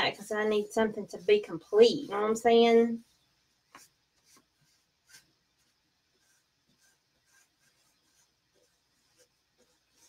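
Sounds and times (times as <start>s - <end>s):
paintbrush brushing on wood: 0.3s - 2.4s, 3.0s - 10.0s.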